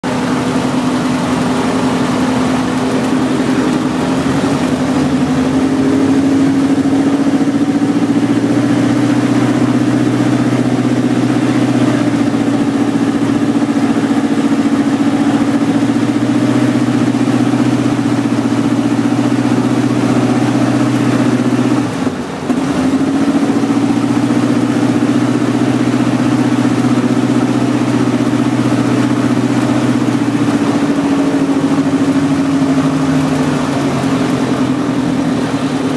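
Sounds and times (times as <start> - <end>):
light aircraft engine running: 0.0 - 35.9.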